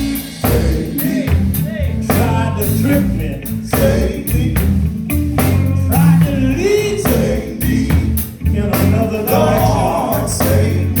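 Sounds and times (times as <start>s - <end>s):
person singing gospel: 0.0s - 4.8s, 5.4s - 11.0s
bass guitar: 0.0s - 11.0s
drum kit beat: 0.0s - 11.0s
electric guitar: 0.0s - 11.0s.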